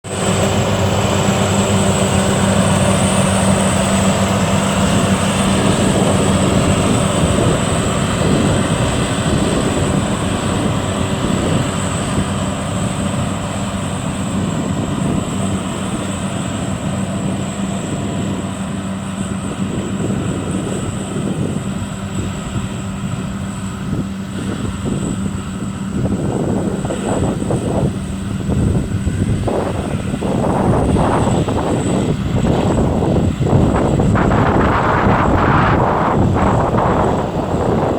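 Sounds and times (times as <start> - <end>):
harvester engine droning: 0.0 - 37.9
thin high whine: 0.1 - 37.9.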